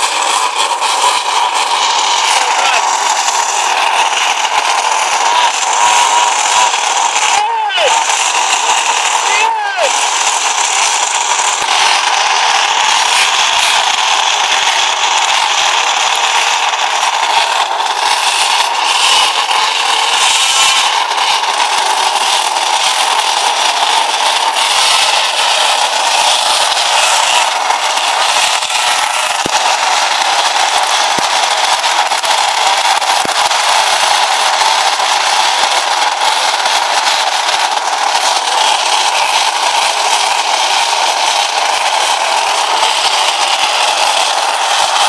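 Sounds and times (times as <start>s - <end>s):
small engines revving: 0.0s - 45.0s.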